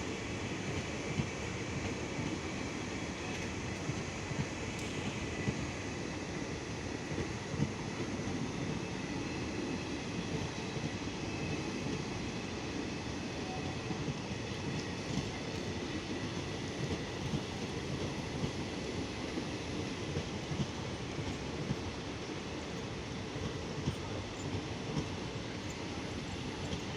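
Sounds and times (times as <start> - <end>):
train coaches rumbling on rails: 0.0 - 26.9.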